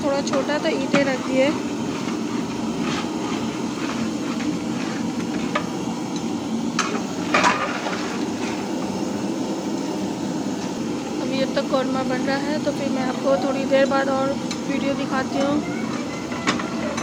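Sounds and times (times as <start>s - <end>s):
gas burner rushing: 0.0s - 17.0s.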